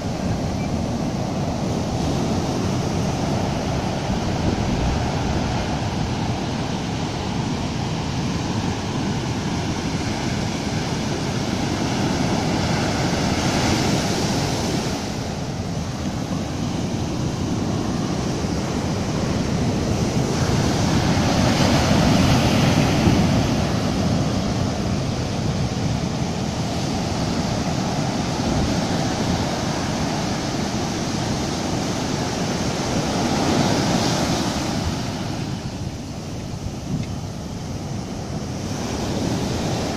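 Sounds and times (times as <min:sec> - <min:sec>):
surf washing over sand: 0:00.0 - 0:39.9.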